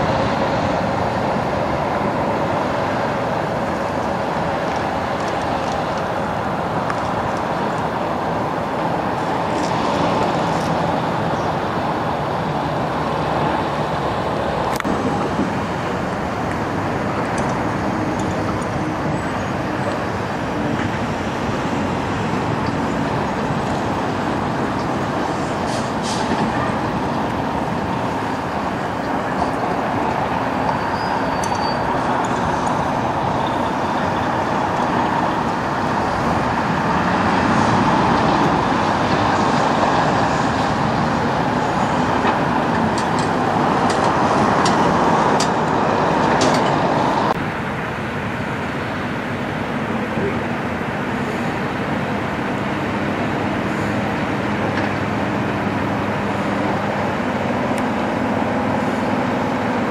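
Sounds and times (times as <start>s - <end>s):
road traffic: 0.0s - 59.9s
truck diesel engine: 0.0s - 59.9s.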